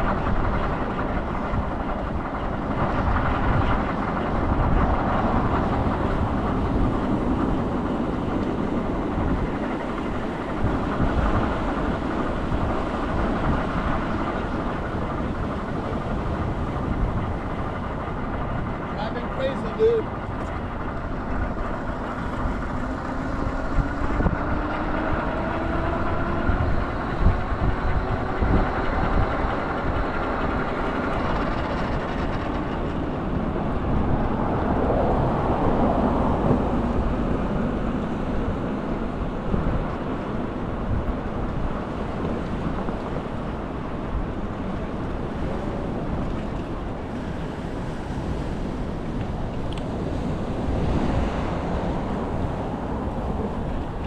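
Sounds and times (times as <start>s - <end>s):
traffic rumble: 0.0s - 54.0s
vehicle engine running: 0.0s - 54.0s
wind buffeting microphone: 0.0s - 54.0s.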